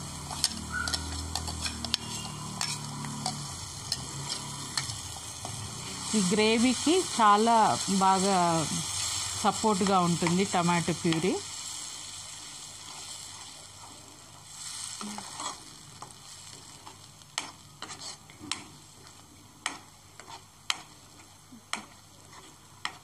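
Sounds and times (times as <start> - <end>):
sauce sizzling in a frying pan: 0.0 - 23.0.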